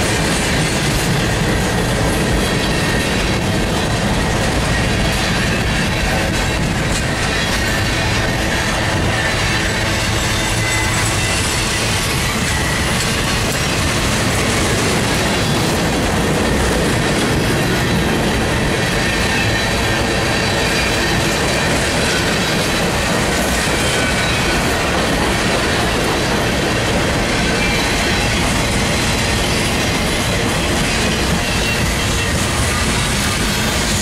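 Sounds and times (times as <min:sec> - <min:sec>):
freight train rolling past: 0:00.0 - 0:34.0
wheels squealing: 0:02.2 - 0:34.0.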